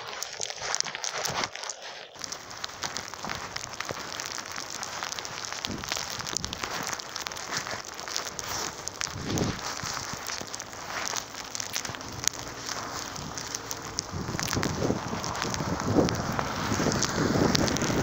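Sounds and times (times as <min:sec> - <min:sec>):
icy snow pattering: 0:00.0 - 0:18.0.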